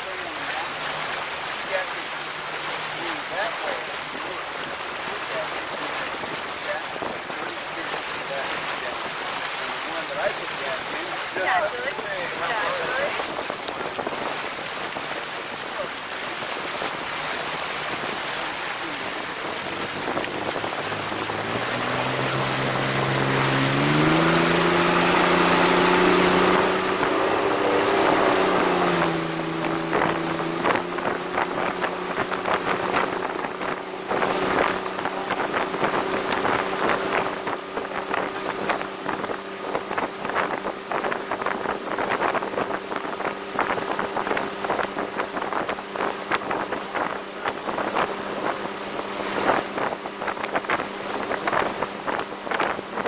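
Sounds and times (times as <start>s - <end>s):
hull slapping across waves: 0.0s - 53.0s
motorboat engine speeding up: 0.0s - 53.0s
rushing wind and water: 0.0s - 53.0s.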